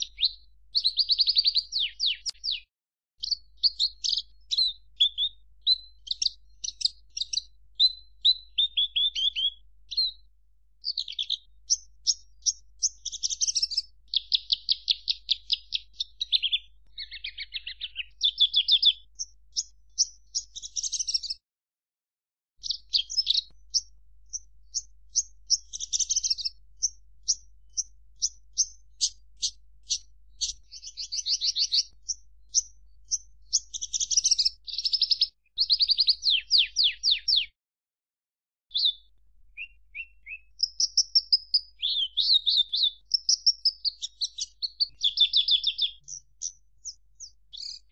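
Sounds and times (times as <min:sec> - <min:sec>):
lark singing chirps and trills: 0:00.0 - 0:21.4, 0:22.6 - 0:37.5, 0:38.7 - 0:47.9.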